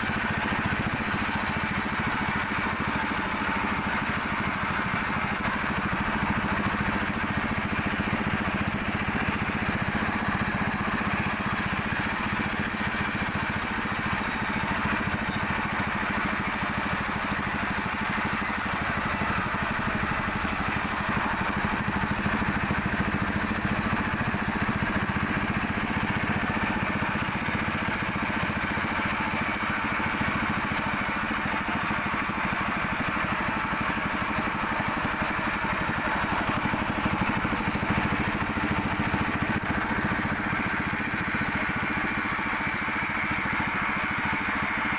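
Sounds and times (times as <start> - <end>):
sawmill saw engine running: 0.0 - 44.9.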